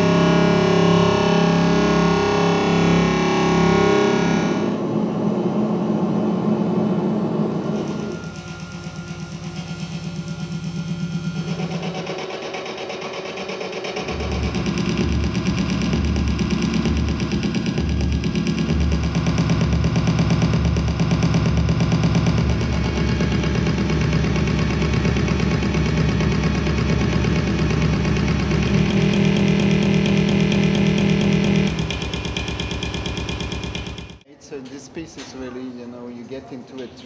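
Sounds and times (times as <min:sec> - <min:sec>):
pulsing low bass: 0:00.0 - 0:12.2, 0:13.8 - 0:33.2
grainy electronic drone: 0:00.0 - 0:34.2.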